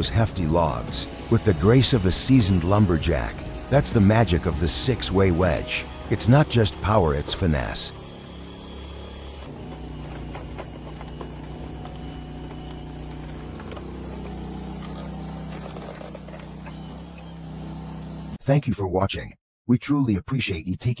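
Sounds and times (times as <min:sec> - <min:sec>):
log splitter engine running: 0:00.0 - 0:18.4.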